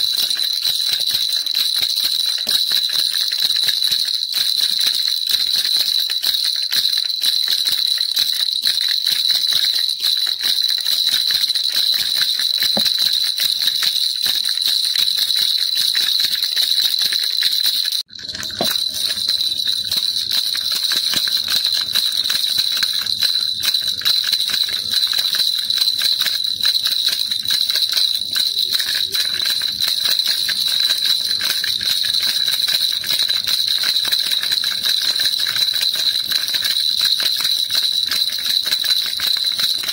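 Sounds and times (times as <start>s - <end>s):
baby rattle jingling: 0.0s - 39.9s.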